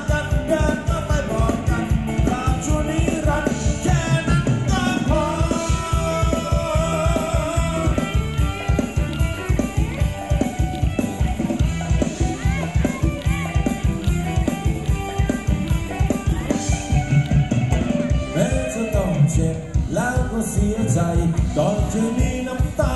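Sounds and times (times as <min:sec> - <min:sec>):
fast drum beat: 0:00.0 - 0:22.9
live band music: 0:00.0 - 0:22.9.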